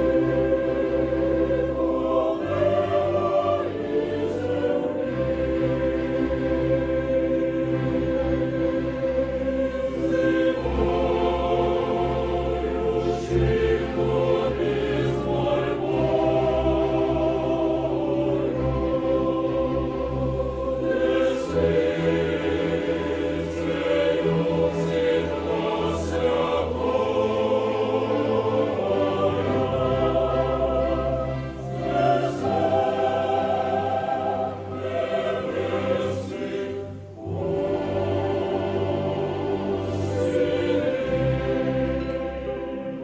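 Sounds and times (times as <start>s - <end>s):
choir singing: 0.0s - 43.0s
orchestral accompaniment: 0.0s - 43.0s.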